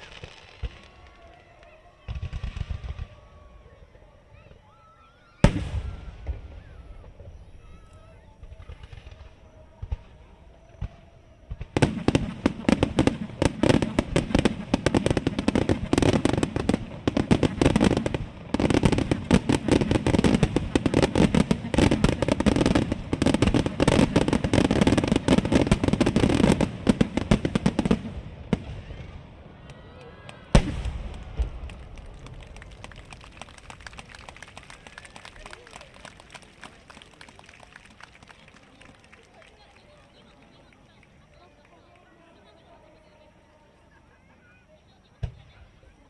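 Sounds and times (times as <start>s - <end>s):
fireworks bangs and crackles: 0.0s - 42.7s, 45.2s - 46.0s.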